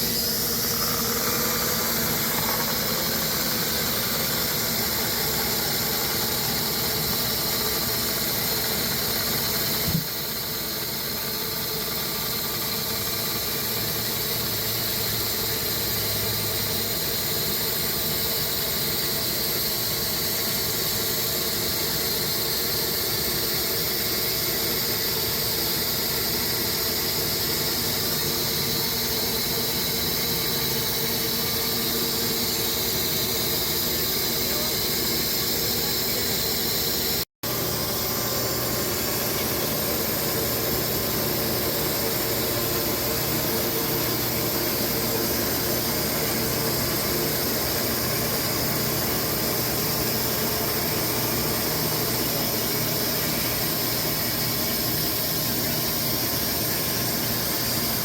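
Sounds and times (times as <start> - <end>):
band saw squealing hiss: 0.0 - 58.0.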